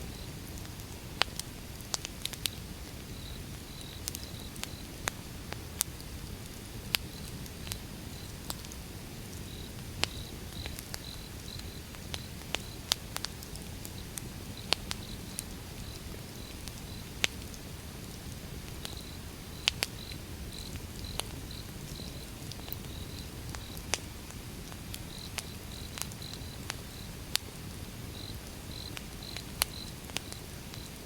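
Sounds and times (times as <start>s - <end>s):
wood fire crackling and popping: 0.1s - 31.0s.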